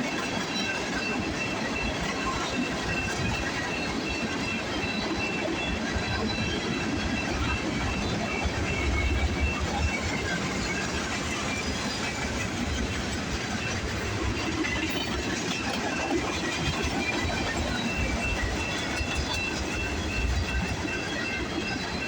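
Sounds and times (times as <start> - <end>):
train wheels clattering on rail: 0.0 - 22.0.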